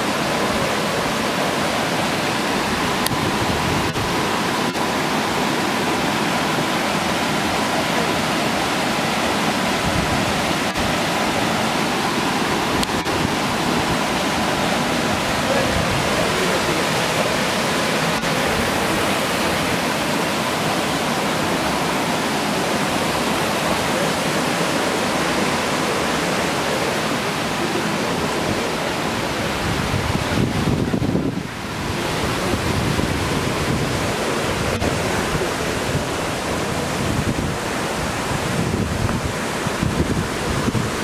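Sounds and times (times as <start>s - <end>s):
water rushing over cascades: 0.0s - 41.0s.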